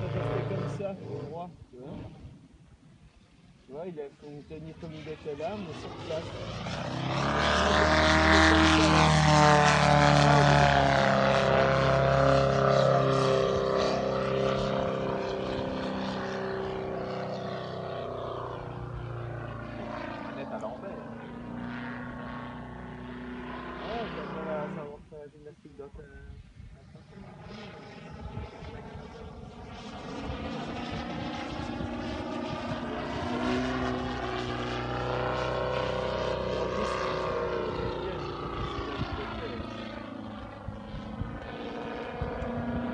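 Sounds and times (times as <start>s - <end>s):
model plane engine and propeller: 0.0s - 42.9s.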